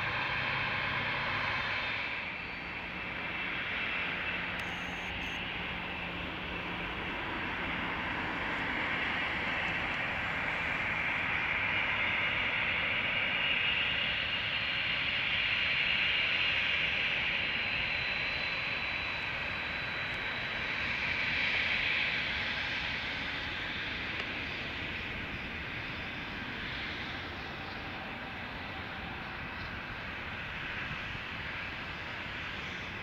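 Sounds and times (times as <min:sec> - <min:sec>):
jet engines hissing with high whine: 0:00.0 - 0:33.0.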